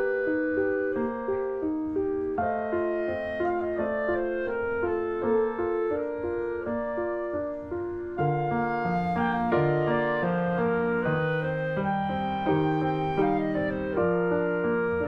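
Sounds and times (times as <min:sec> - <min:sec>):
calm instrumental music: 0:00.0 - 0:15.0.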